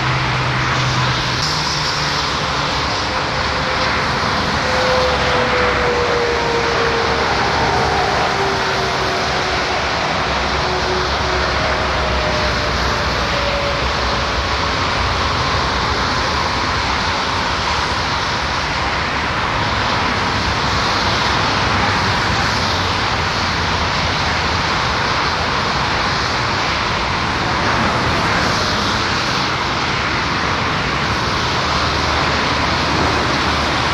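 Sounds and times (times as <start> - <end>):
motorway traffic roar: 0.0 - 33.9.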